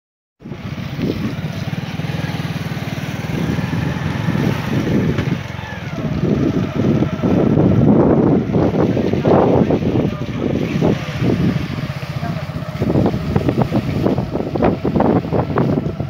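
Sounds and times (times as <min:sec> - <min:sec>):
small motorcycle engine running: 0:00.4 - 0:16.0
wind rumble on microphone: 0:00.4 - 0:16.0.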